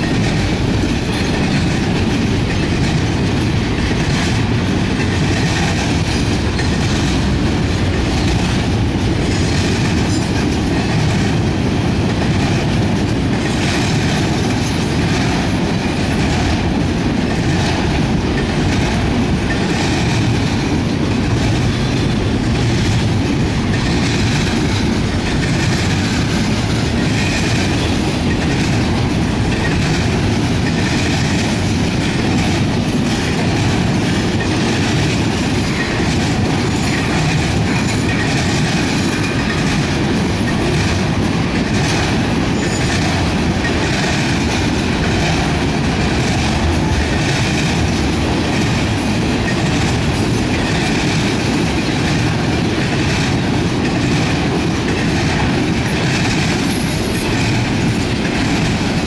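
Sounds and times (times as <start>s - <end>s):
freight train wheels rumbling on rails: 0.0s - 59.0s
wheels clacking over rail joints: 0.0s - 59.0s.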